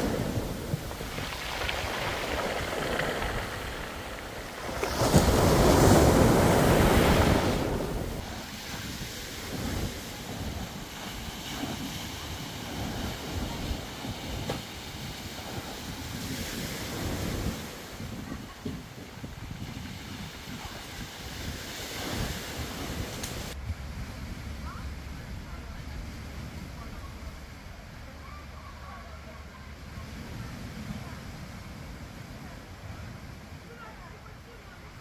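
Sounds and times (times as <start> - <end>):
sea waves washing onto shore: 0.0 - 35.0
wind buffeting microphone: 0.0 - 35.0.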